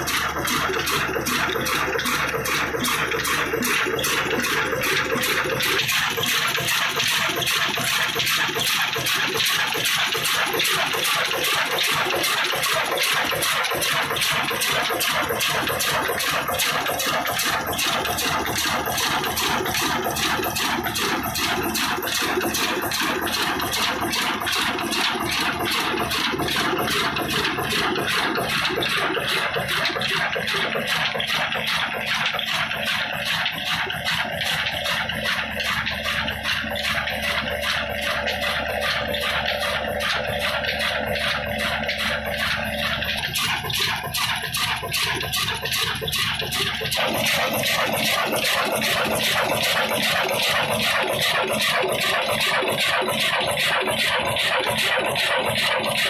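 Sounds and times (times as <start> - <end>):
diesel engine exhaust puffing: 0.0 - 56.0.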